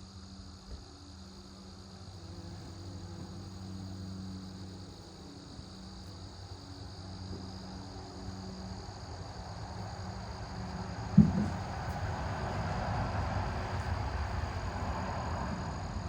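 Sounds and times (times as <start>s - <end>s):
insects chirring: 0.0s - 16.0s
bees buzzing: 0.3s - 16.0s.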